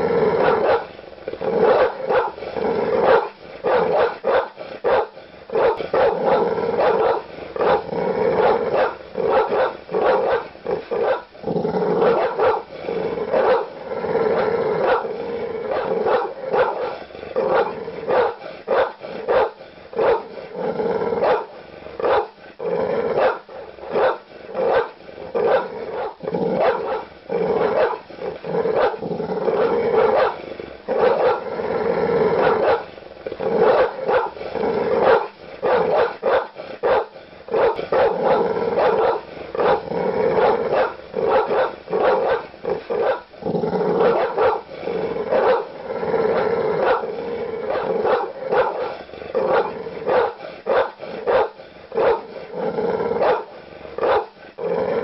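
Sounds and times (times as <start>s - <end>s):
large dog barking: 0.0s - 22.4s, 23.0s - 31.5s, 32.2s - 52.4s, 53.0s - 55.0s.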